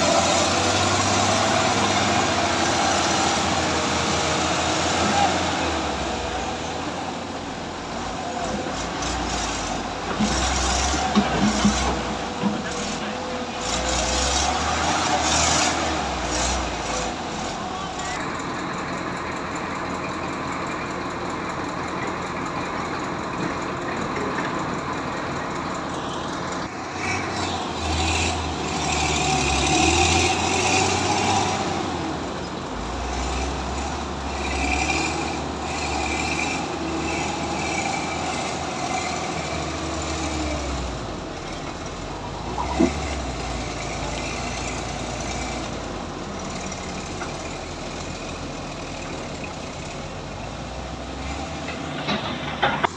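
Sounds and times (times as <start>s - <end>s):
heavy diesel engines revving: 0.0s - 52.9s.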